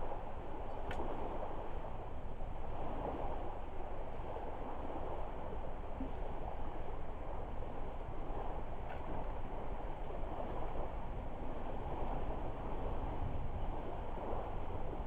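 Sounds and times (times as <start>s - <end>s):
water lapping at shore: 0.0s - 15.0s.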